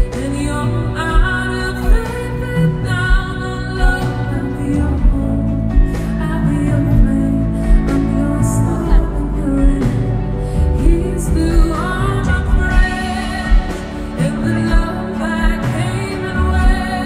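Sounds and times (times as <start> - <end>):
live pop band music: 0.0 - 17.0
woman singing: 0.0 - 17.0
low drum beat: 1.1 - 17.0.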